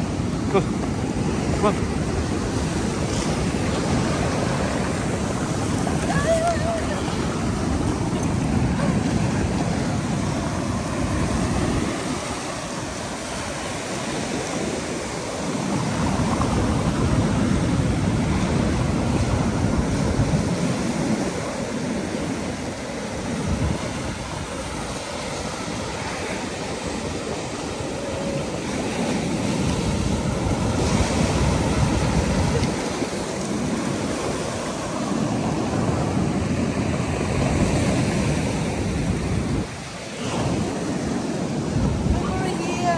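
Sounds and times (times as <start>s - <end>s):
sea waves washing over seawall: 0.0s - 42.9s
wind buffeting microphone: 0.0s - 42.9s.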